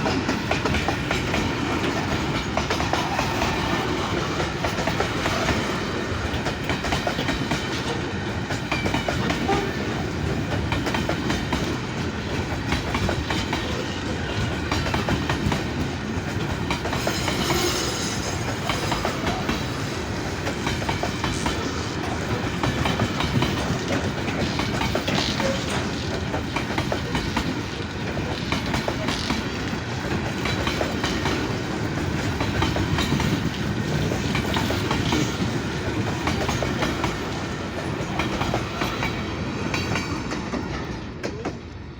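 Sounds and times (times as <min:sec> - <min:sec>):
train wheels clattering over rail joints: 0:00.0 - 0:41.8.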